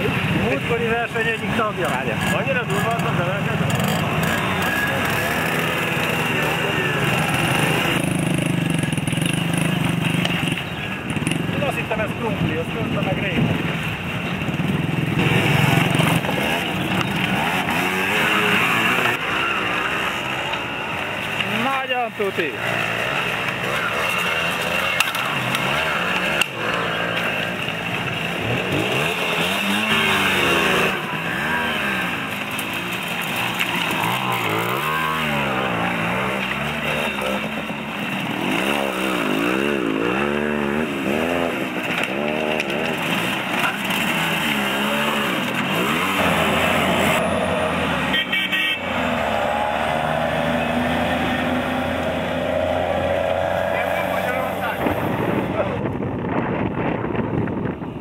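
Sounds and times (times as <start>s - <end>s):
moped engines revving: 0.0s - 58.0s.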